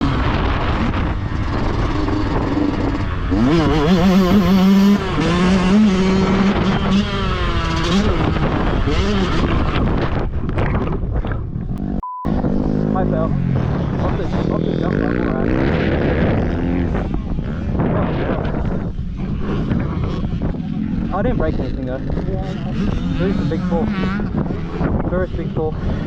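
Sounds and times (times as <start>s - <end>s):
dirt bike engine revving: 0.0s - 10.9s, 11.8s - 26.0s
steady rushing noise: 0.0s - 26.0s.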